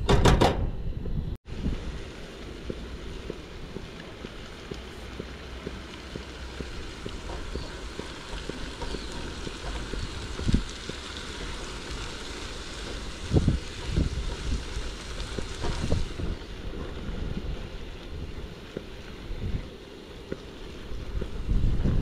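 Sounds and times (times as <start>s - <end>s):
wind buffeting microphone: 0.0s - 22.0s
vegetables sizzling in a frying pan: 1.5s - 21.4s.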